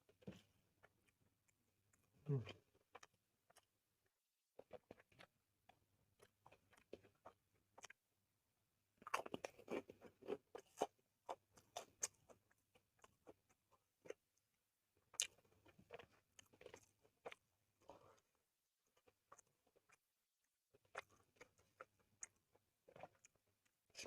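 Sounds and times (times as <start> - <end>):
chewing and crunching food: 0.1 - 8.1, 8.8 - 24.0.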